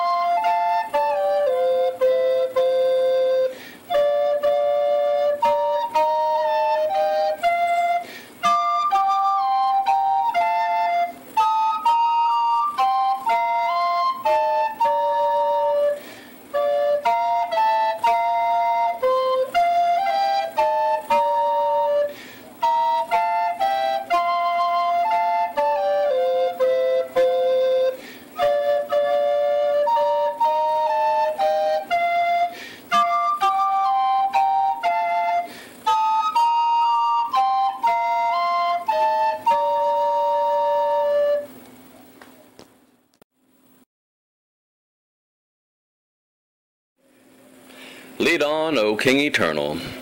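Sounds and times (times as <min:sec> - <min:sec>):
flute melody: 0:00.0 - 0:41.9.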